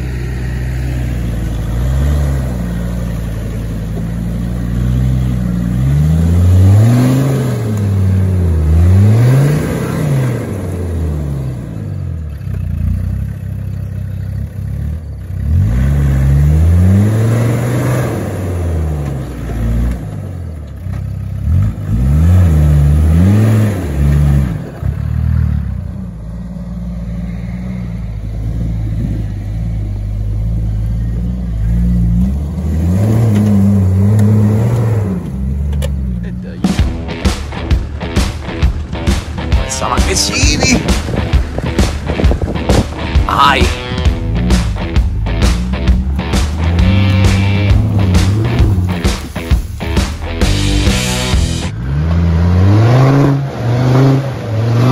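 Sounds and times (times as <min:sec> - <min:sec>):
off-road vehicle engine revving: 0:00.0 - 0:54.9.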